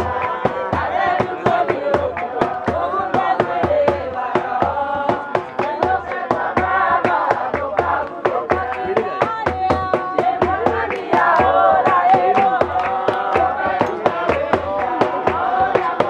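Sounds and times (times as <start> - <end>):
group of voices singing: 0.0 - 16.0
percussion beat with low thumps: 0.0 - 16.0.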